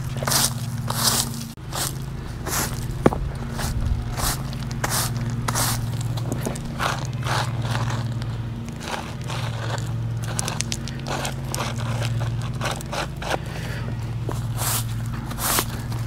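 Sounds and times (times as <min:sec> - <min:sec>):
gravel scraping and crunching: 0:00.0 - 0:16.0
steady low hum: 0:00.0 - 0:16.0.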